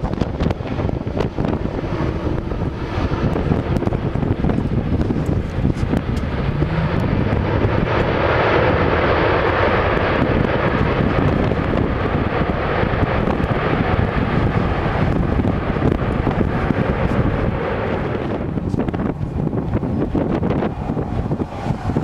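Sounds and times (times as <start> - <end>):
jet airliner flying past: 0.0 - 22.0
wind buffeting microphone: 0.0 - 22.0.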